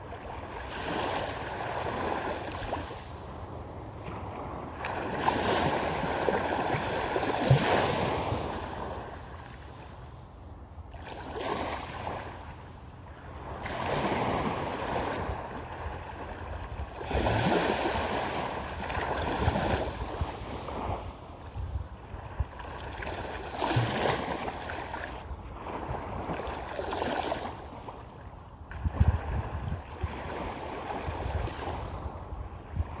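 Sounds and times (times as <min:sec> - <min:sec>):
small waves washing in: 0:00.0 - 0:10.0, 0:10.9 - 0:33.0.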